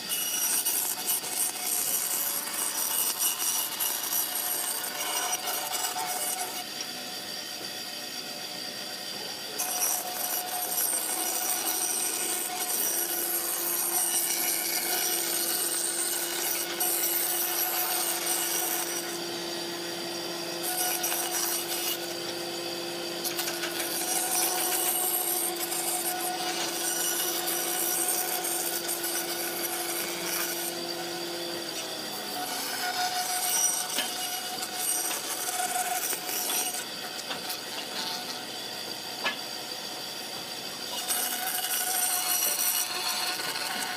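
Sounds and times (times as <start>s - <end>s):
power tool cutting wood: 0.0s - 43.9s.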